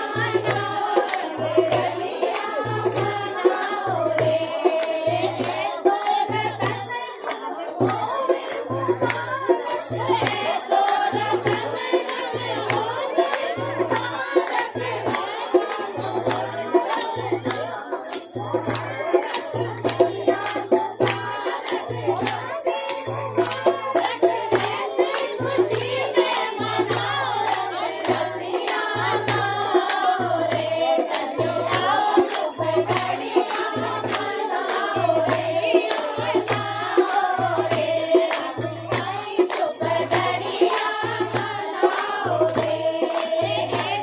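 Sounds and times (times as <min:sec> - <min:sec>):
dance song with singing: 0:00.0 - 0:44.0.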